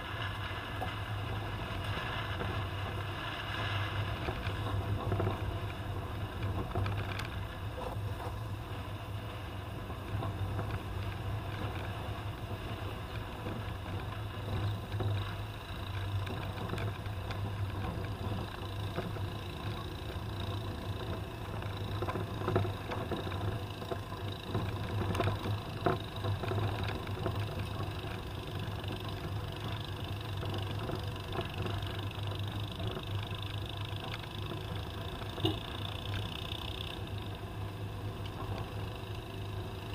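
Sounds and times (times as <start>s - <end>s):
car engine drone: 0.0s - 39.9s
road and rattle noise: 0.0s - 39.9s.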